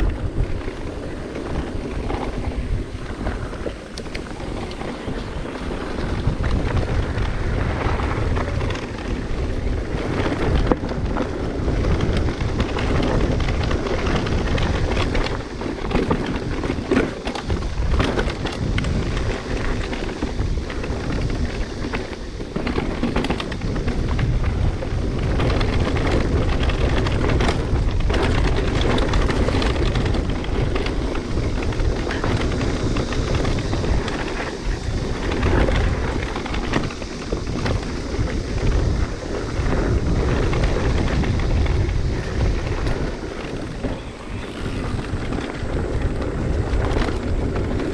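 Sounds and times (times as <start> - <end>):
bike rattling over rough trail: 0.0 - 47.9
wind rumbling on microphone: 0.0 - 47.9.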